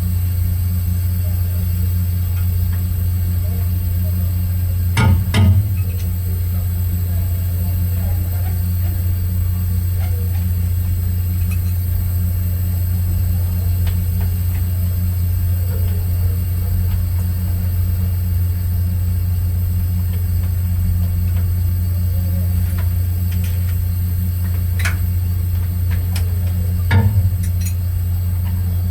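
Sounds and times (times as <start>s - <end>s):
low machinery hum: 0.0s - 28.9s.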